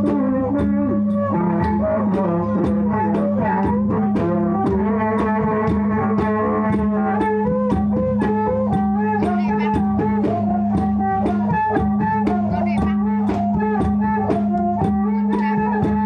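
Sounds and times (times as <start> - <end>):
drum beating: 0.0 - 16.0.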